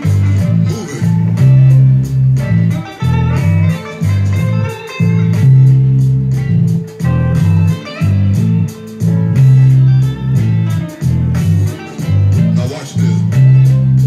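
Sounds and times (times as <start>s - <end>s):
bass guitar blues riff: 0.0s - 14.0s.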